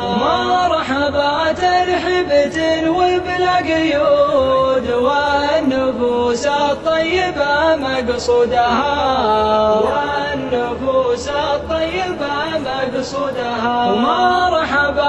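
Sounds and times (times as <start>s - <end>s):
person singing slow chant: 0.0s - 15.0s.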